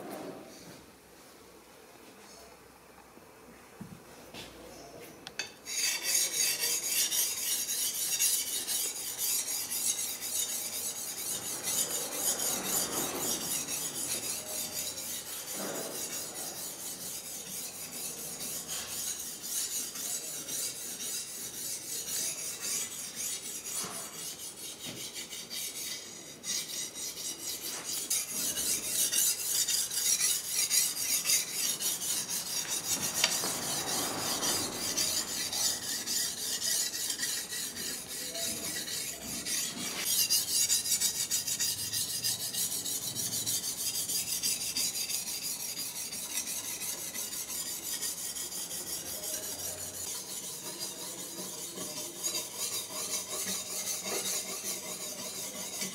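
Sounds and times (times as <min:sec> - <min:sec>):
sharpening stone scraping on steel: 0:05.4 - 0:55.9.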